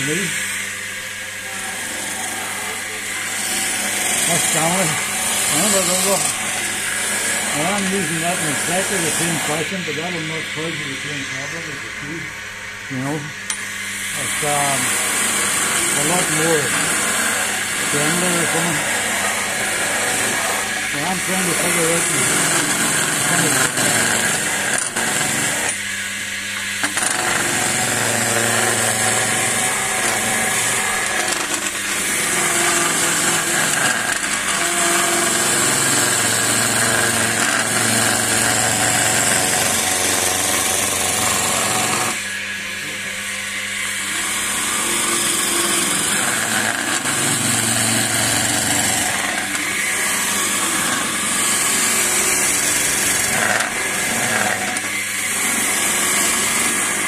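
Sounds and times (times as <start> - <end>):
chisel shaving wood on lathe: 0.0 - 57.0.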